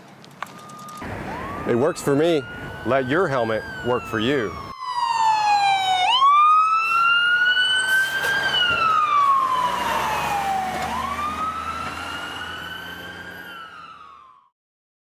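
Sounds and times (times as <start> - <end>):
siren wailing: 0.4 - 14.5.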